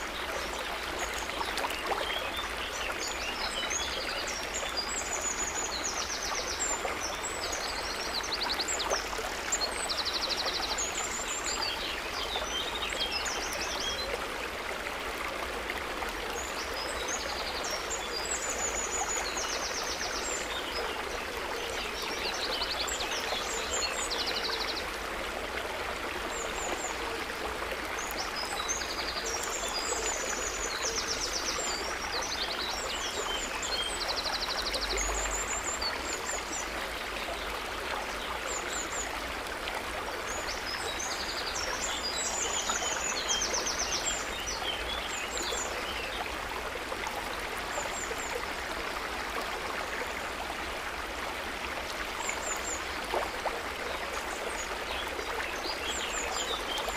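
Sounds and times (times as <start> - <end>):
water babbling and trickling: 0.0 - 56.9.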